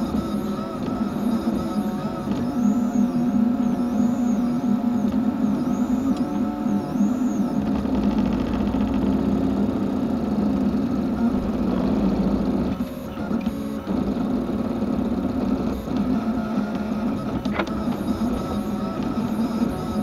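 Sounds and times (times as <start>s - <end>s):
stepper motors whirring: 0.0s - 20.0s.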